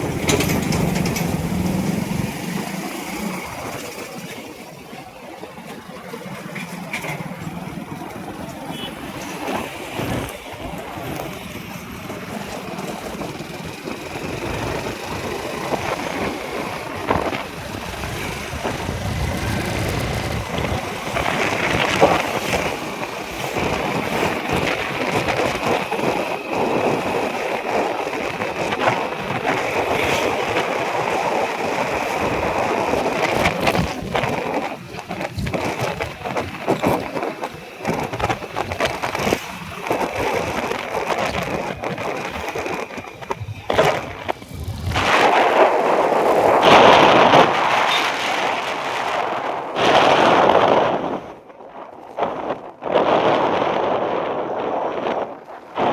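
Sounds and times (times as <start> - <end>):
passing traffic: 0.0 - 55.9.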